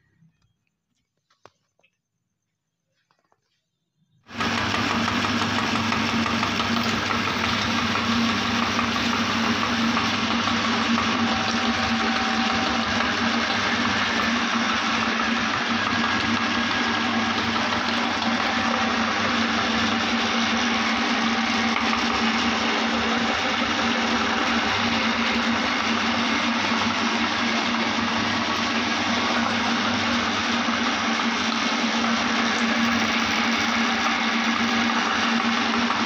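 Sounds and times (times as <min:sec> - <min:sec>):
electric meat grinder humming: 0:04.3 - 0:36.0.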